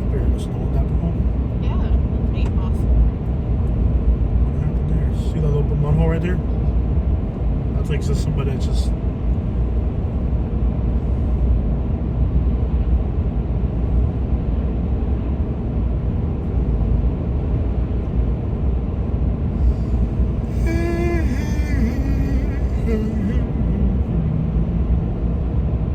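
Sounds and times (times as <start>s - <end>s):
vehicle engine rumble: 0.0s - 25.9s.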